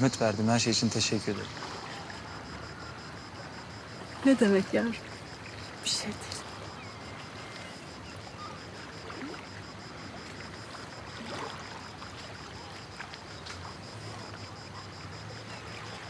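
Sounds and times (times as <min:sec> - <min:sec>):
sea water washing along quay: 0:00.0 - 0:16.0.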